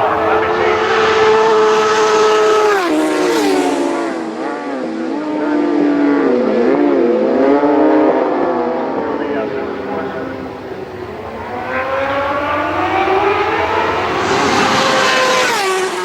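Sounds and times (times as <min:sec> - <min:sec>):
racing motorcycles passing: 0:00.0 - 0:16.0.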